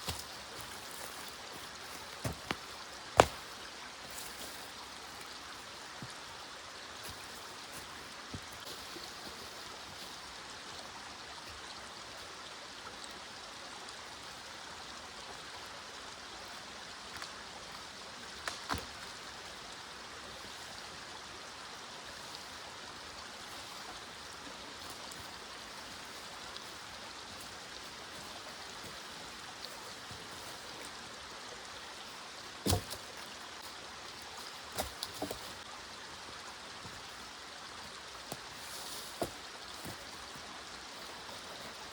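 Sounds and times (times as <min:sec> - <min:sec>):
small stream running: 0:00.0 - 0:41.9.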